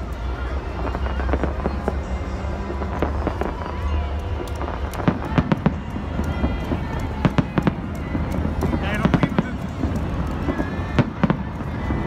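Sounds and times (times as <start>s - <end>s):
fireworks cracking and banging: 0.0s - 12.0s
steady low rumble: 0.0s - 12.0s.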